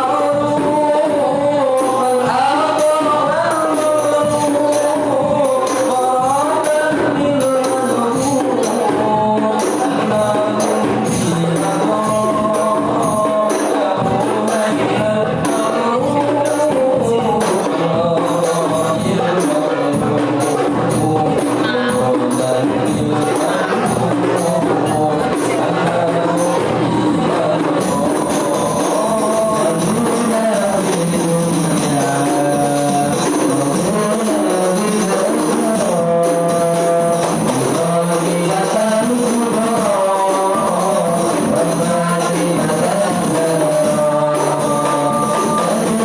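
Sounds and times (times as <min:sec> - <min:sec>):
frame drums playing rhythm: 0:00.0 - 0:46.0
person singing: 0:00.0 - 0:46.0.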